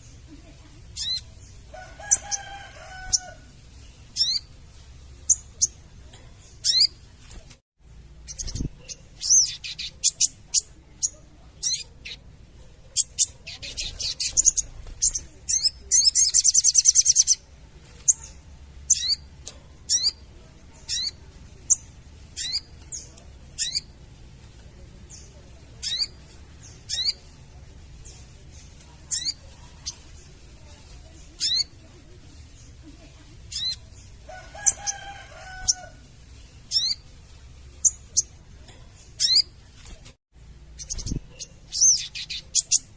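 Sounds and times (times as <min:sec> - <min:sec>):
rapid rattling chatter: 0:00.0 - 0:42.9.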